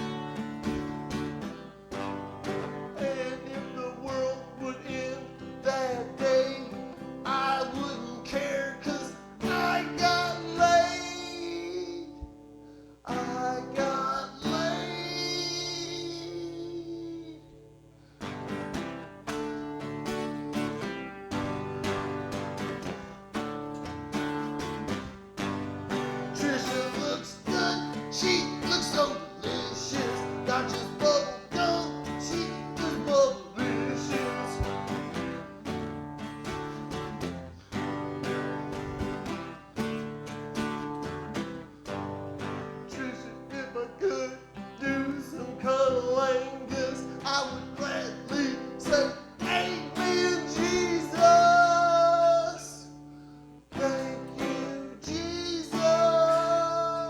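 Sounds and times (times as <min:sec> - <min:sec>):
strummed music: 0:00.0 - 0:57.0.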